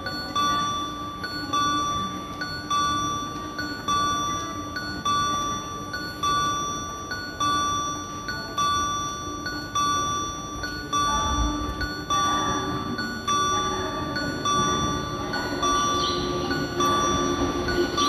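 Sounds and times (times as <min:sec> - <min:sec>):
steady low hum: 0:00.0 - 0:18.0
electronic bell-like chime: 0:00.1 - 0:18.0.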